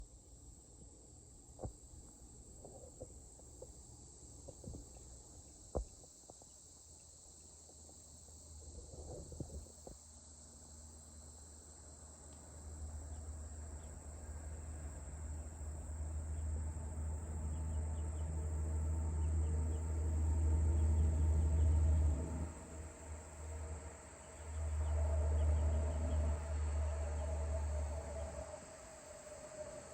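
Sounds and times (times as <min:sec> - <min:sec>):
insects chirring: 0:00.0 - 0:29.9.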